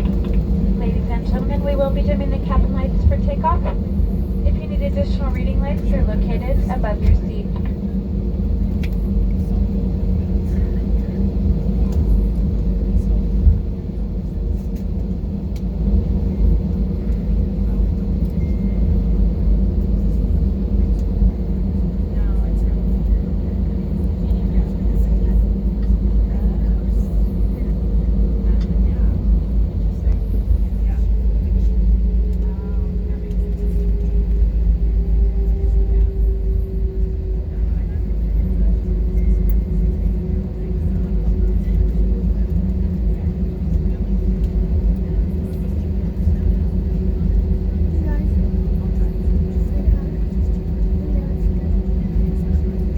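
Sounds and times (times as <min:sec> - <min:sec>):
jet engines rumbling in cabin: 0:00.0 - 0:52.9.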